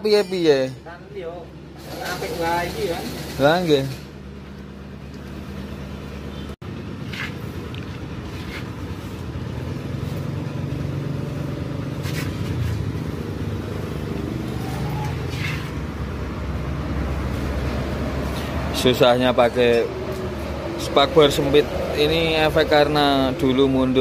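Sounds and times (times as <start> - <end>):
vehicle engine running: 1.4 - 24.0.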